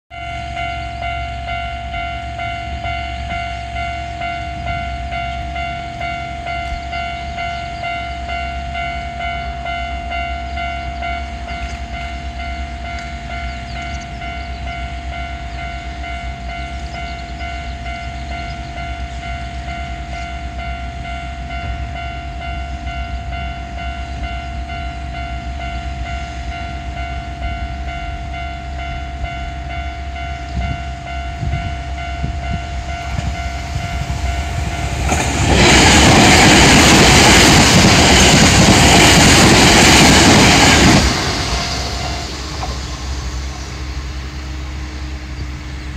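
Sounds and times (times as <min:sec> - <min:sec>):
level crossing warning bell: 0:00.1 - 0:45.5
train passing on rails: 0:00.1 - 0:45.9.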